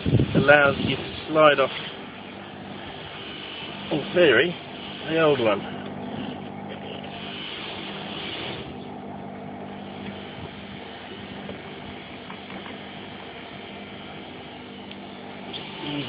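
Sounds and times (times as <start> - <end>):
hiss: 0.0 - 6.4, 7.0 - 8.9, 9.8 - 14.8, 15.4 - 16.0
mechanical hum: 0.0 - 16.0.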